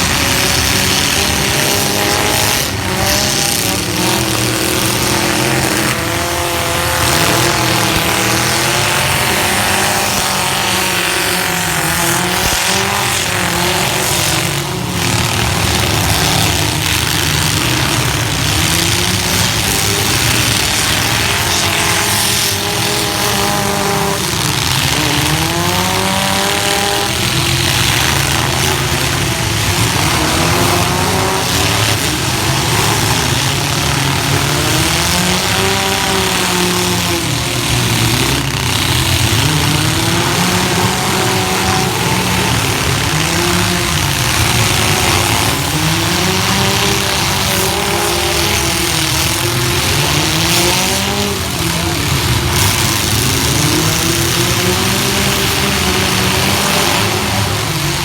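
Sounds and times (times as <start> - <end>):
crowd noise: 0.0 - 58.0
pickup engines revving: 0.0 - 58.0
vehicles crashing: 0.0 - 58.0.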